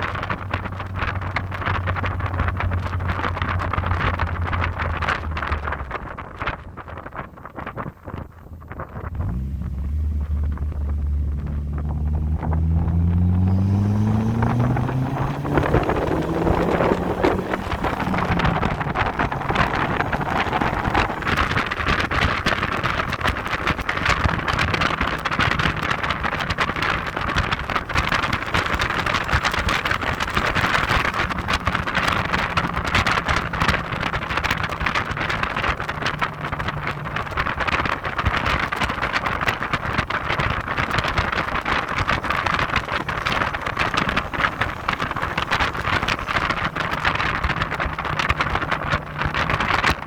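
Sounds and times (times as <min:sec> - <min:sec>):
faint car engine hum: 0:00.0 - 0:50.0
wind buffeting microphone: 0:00.0 - 0:50.0.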